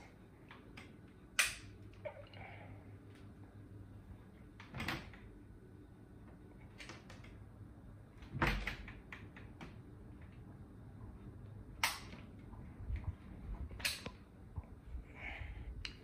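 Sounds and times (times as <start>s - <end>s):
ceiling fan rumbling: 0.0s - 16.0s.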